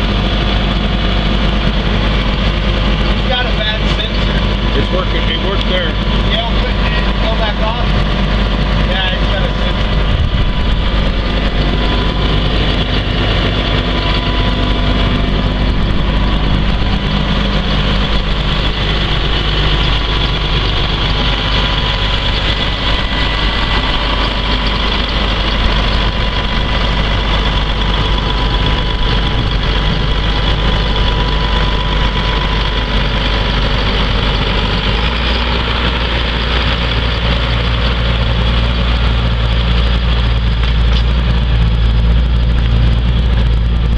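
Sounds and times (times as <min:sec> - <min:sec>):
tractor diesel engine idling: 0:00.0 - 0:43.9.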